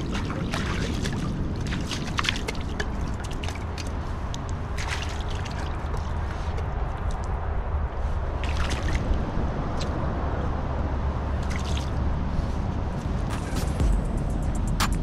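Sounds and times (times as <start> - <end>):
water splashing and trickling: 0.0 - 13.3
steady low rumble: 0.0 - 15.0.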